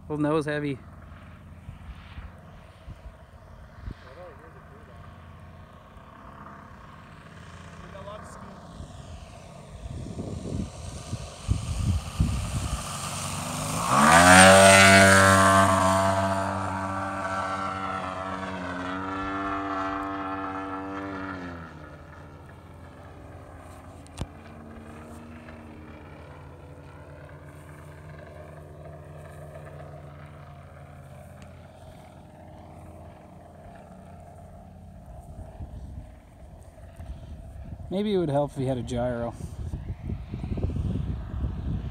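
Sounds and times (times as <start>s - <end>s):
model jet engine drone: 0.0s - 41.9s.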